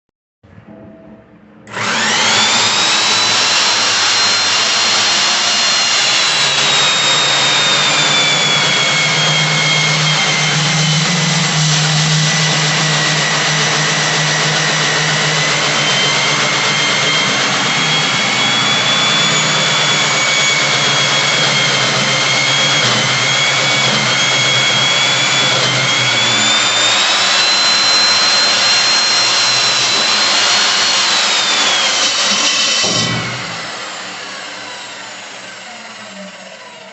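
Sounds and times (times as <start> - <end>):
electric core cutter whining: 1.7 - 36.9.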